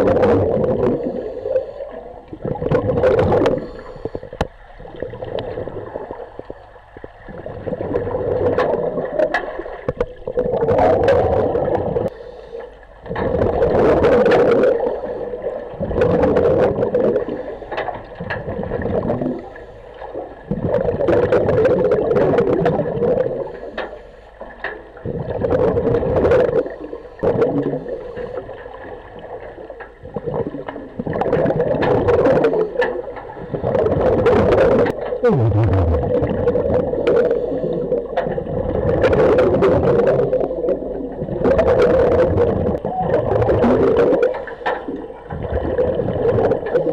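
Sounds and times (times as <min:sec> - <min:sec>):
diver exhaling bubbles underwater: 0:00.0 - 0:12.1, 0:13.1 - 0:17.6, 0:18.4 - 0:19.5, 0:20.5 - 0:23.6, 0:25.0 - 0:46.9.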